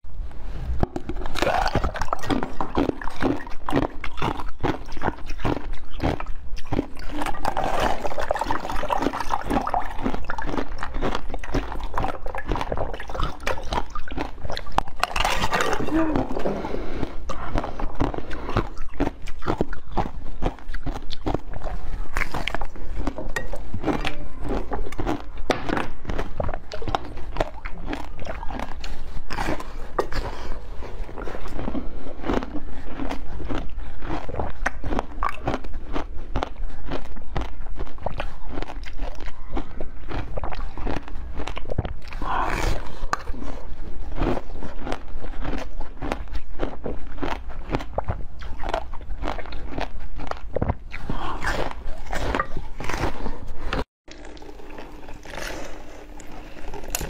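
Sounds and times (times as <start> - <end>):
crunchy chewing close up: 0.8 - 57.0.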